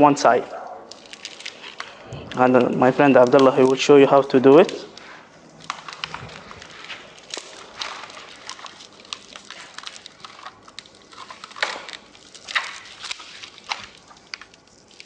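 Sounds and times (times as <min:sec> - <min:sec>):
dry reeds crackling and creaking: 0:00.2 - 0:15.0.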